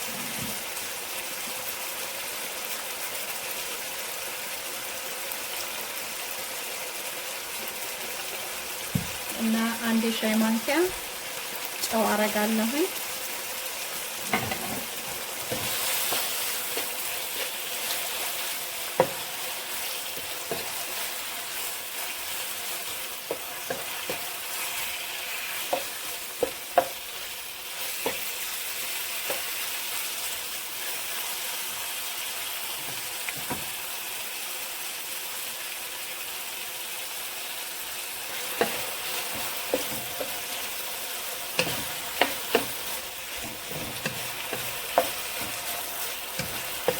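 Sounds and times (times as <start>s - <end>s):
chicken sizzling in a pan: 0.0s - 46.9s.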